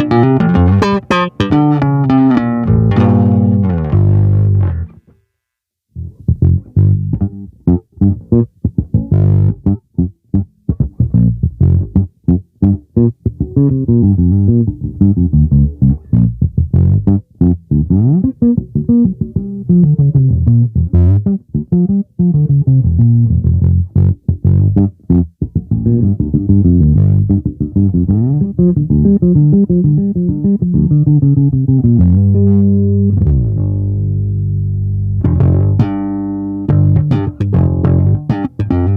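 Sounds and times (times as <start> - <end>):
electric bass plucked notes: 0.0 - 5.2, 5.9 - 38.9.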